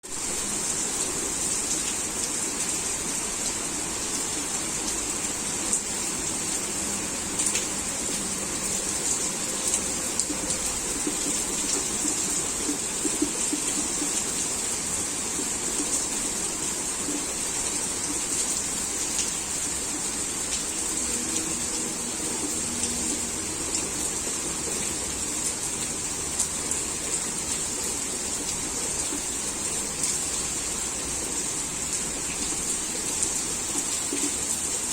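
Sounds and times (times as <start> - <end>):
heavy rain hiss: 0.1 - 34.9.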